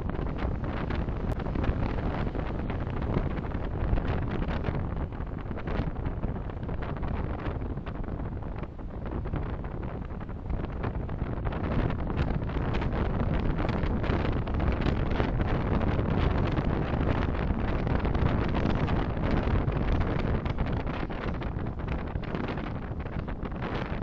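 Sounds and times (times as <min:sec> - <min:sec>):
car road and engine noise: 0:00.0 - 0:24.0.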